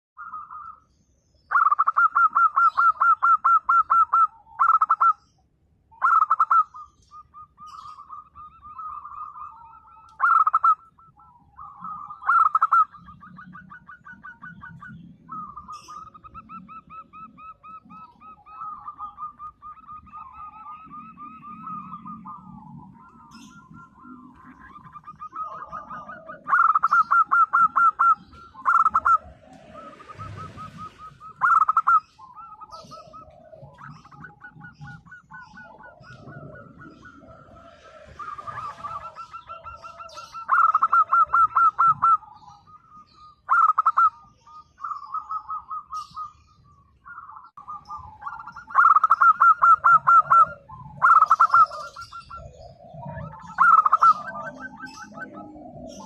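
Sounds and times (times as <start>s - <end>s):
dove cooing: 1.5s - 5.2s, 5.9s - 56.0s.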